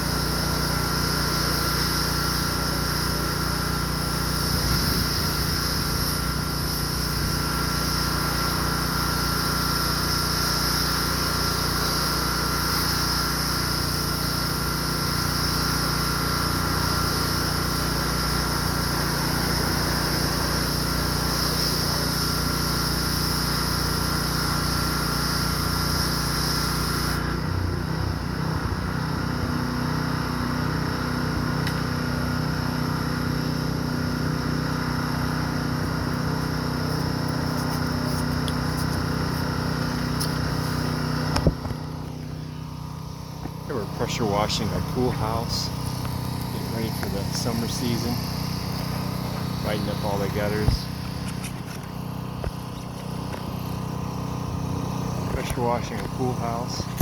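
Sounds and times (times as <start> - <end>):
water spray hissing: 0.0 - 27.4, 28.4 - 57.0
small engine running: 0.0 - 57.0.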